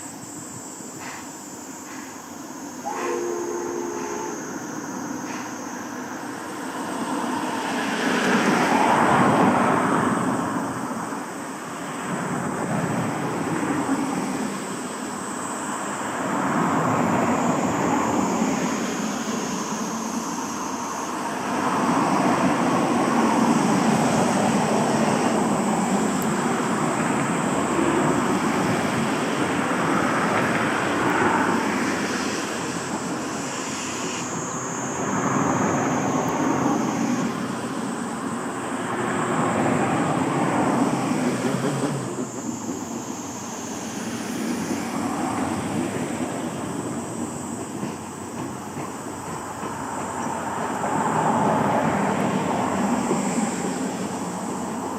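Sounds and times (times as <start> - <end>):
steam locomotive exhaust rushing: 0.0 - 54.9.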